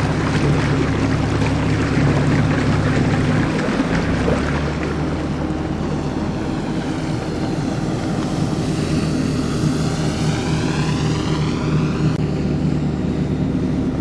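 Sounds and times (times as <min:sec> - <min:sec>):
model aircraft motor and propeller: 0:00.0 - 0:14.0.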